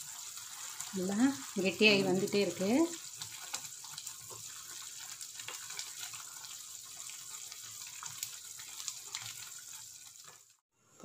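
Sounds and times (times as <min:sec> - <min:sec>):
syrup bubbling in a pan: 0:00.0 - 0:10.7.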